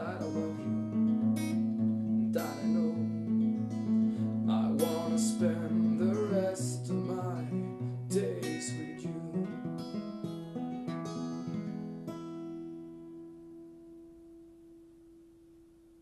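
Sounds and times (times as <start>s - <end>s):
acoustic guitar strumming: 0.0s - 15.7s.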